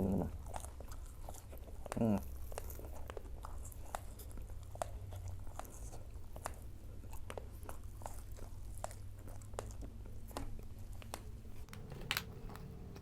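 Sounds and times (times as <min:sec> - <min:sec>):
chewing crunchy snacks: 0:00.0 - 0:13.0
steady low hum: 0:00.0 - 0:13.0.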